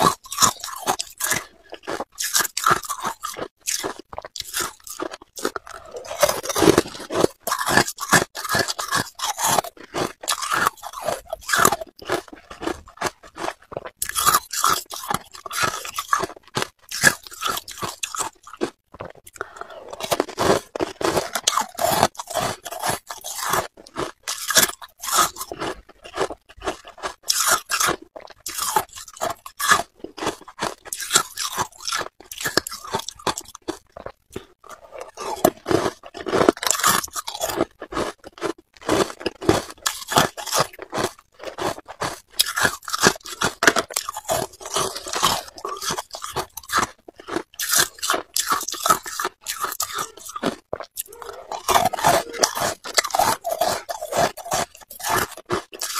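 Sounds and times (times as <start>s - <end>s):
ice cubes crunching in mouth: 0.0s - 55.9s.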